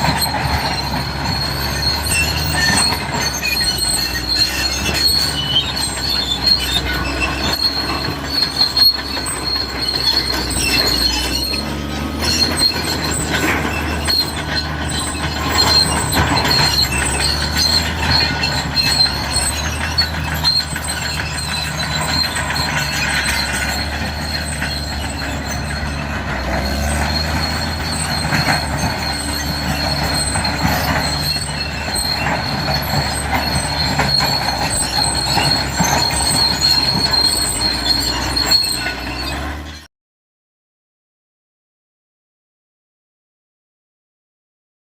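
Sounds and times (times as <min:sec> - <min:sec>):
diesel engine running: 0:00.0 - 0:39.9
high squeal of steel tracks: 0:00.0 - 0:39.9
metallic clatter of tracks: 0:00.0 - 0:39.9.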